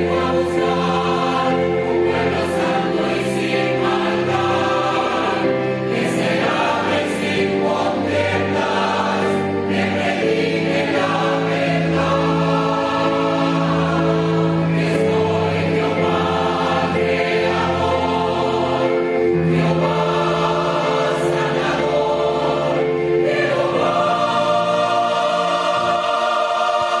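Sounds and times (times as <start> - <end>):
mixed choir singing in chords: 0.0 - 27.0.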